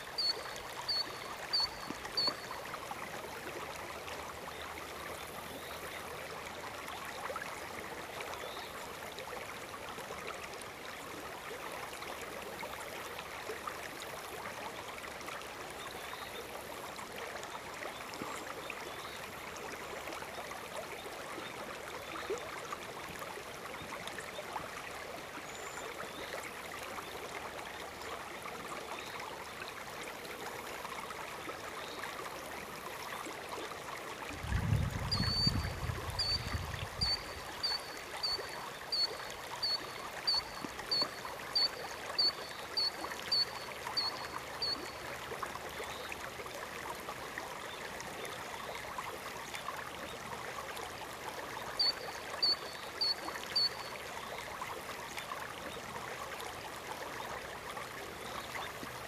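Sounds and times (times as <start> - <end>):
river water running over stones: 0.0 - 59.0.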